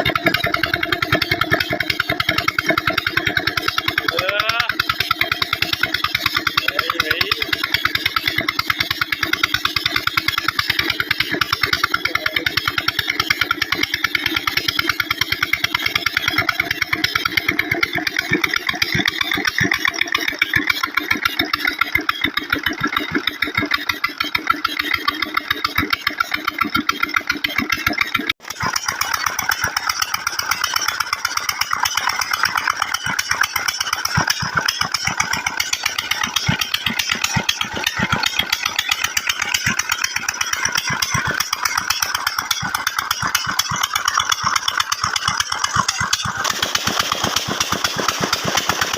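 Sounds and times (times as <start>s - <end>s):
diesel engine running steadily: 0.0s - 48.9s.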